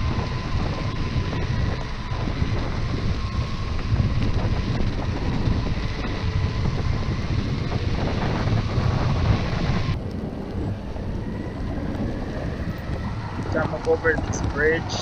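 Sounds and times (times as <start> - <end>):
tyres rolling on road: 0.0 - 15.0
wind buffeting microphone: 0.0 - 15.0.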